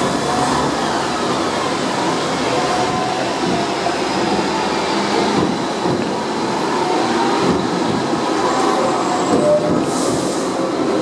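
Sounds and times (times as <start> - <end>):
tram rumbling and rattling on rails: 0.0 - 11.0.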